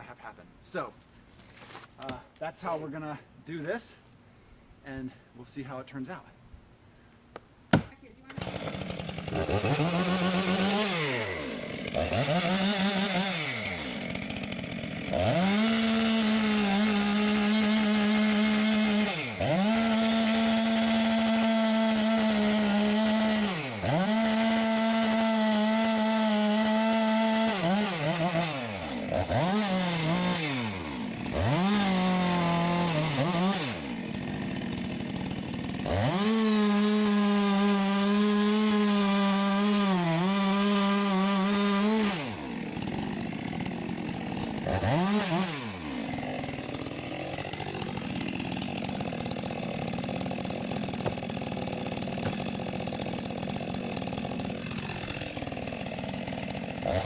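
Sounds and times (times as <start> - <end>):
chainsaw cutting wood: 7.7 - 57.0.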